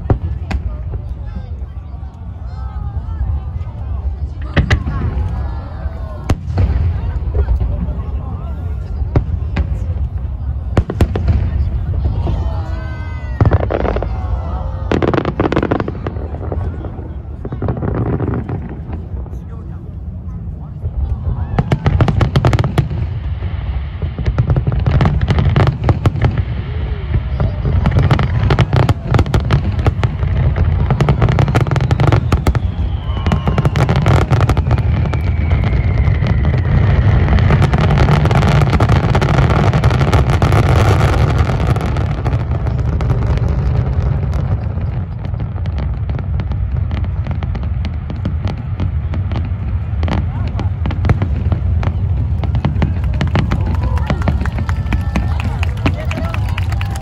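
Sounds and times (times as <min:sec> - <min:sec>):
firework bangs and crackling: 0:00.0 - 0:57.0
low booming: 0:02.9 - 0:54.6.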